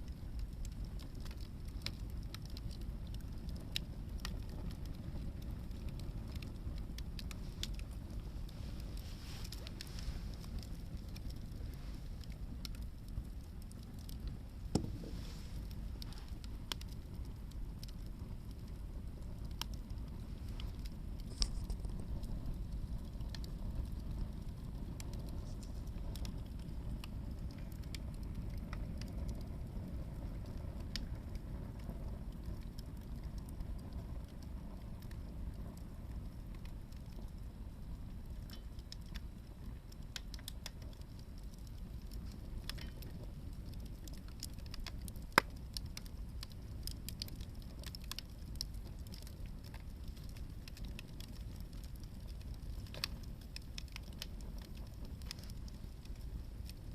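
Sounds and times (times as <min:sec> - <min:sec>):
fire crackling and popping: 0:00.0 - 0:56.9
log fire rumbling: 0:00.0 - 0:56.9.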